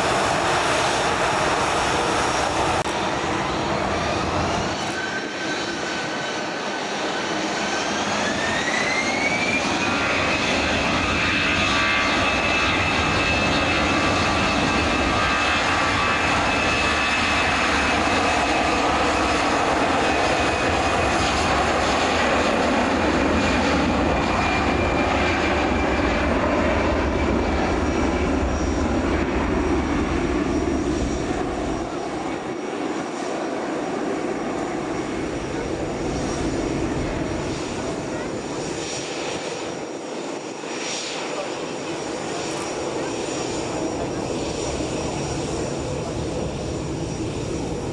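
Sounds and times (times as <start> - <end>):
jet rumble: 0.0 - 6.4, 7.3 - 47.9
jet engines spooling up: 0.0 - 22.7, 23.9 - 47.9
jet engine whine: 0.0 - 47.9.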